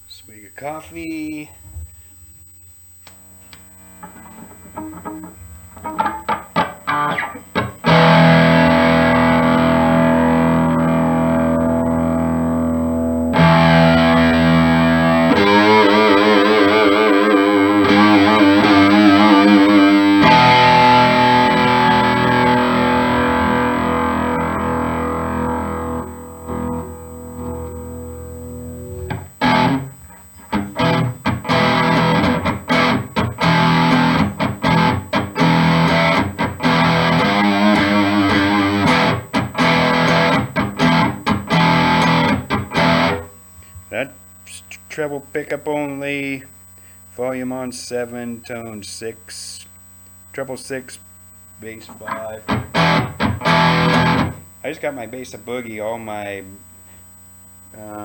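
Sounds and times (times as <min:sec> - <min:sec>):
distorted electric guitar: 0:00.8 - 0:58.0.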